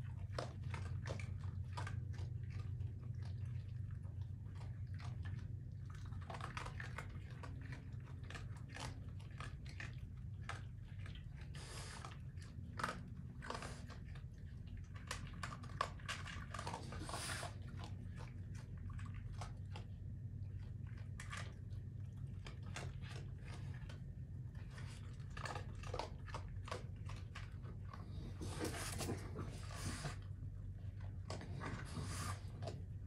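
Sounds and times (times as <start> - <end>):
raccoons crunching kibble: 0.0 - 33.0
steady low hum: 0.0 - 33.0.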